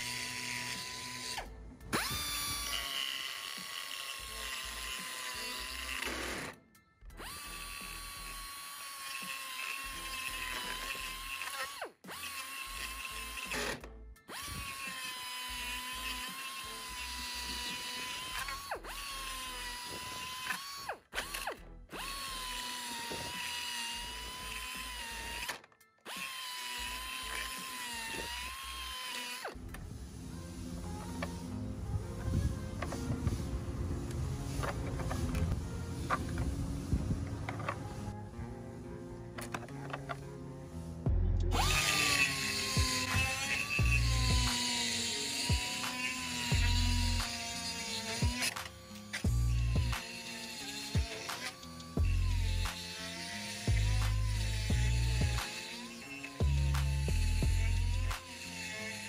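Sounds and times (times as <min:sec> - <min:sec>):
die grinder high whine: 0:00.0 - 0:38.6, 0:39.4 - 0:59.0.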